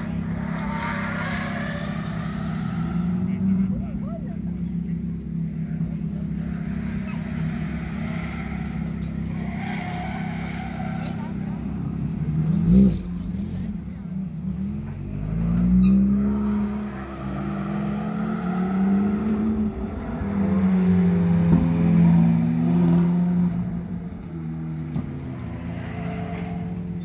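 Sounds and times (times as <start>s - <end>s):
sports car engine revving: 0.0s - 26.6s.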